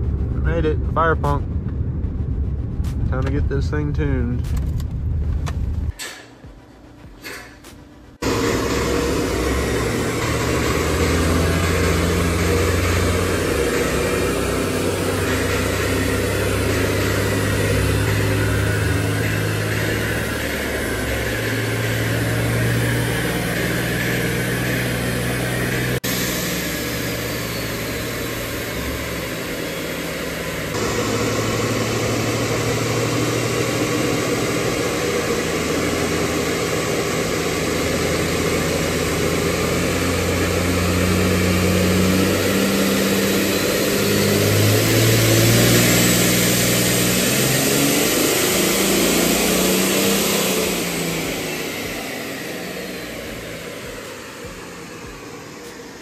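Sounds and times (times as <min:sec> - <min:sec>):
diesel truck engine running: 0:00.0 - 0:56.0
rushing air and roller noise: 0:00.0 - 0:56.0.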